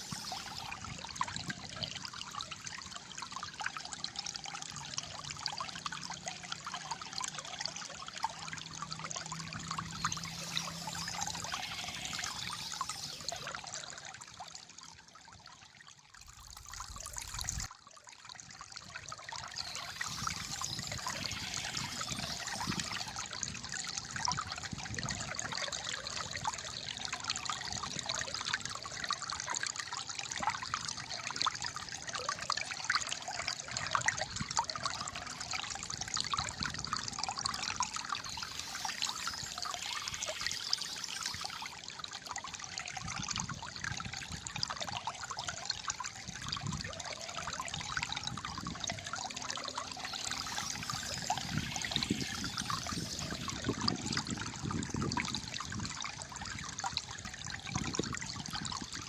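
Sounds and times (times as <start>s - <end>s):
water trickling and gurgling: 0.0s - 59.0s.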